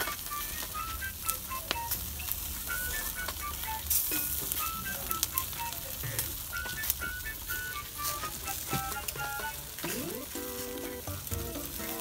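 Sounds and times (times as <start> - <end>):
background music with high notes: 0.0 - 12.0
crackling pops: 0.0 - 12.0
skewers sizzling on a grill: 0.0 - 12.0.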